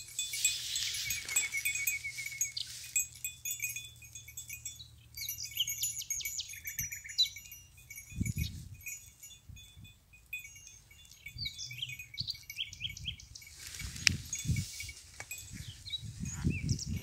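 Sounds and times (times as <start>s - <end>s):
goat bells clinking: 0.0s - 17.0s
songbirds chirping: 0.1s - 9.4s, 10.2s - 17.0s.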